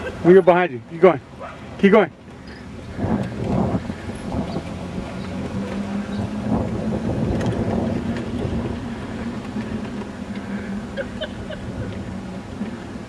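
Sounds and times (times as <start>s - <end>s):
road and wind noise: 0.0s - 13.0s
vehicle motor hum: 0.0s - 13.0s.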